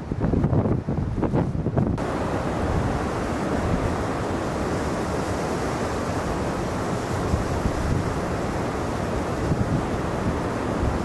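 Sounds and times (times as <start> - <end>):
blizzard wind buffeting microphone: 0.0 - 11.0.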